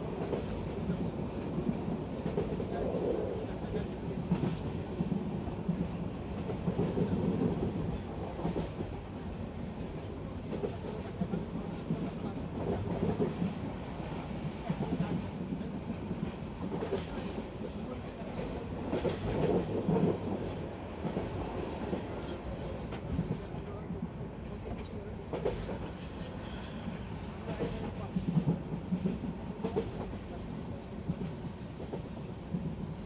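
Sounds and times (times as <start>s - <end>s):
train wheels rumbling on track: 0.0s - 33.0s.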